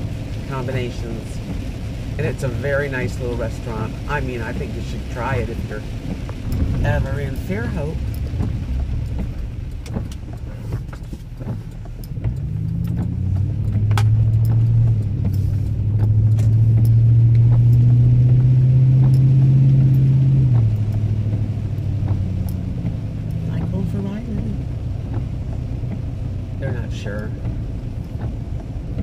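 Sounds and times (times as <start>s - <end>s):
car engine accelerating: 0.0s - 29.0s
road rumble: 0.0s - 29.0s.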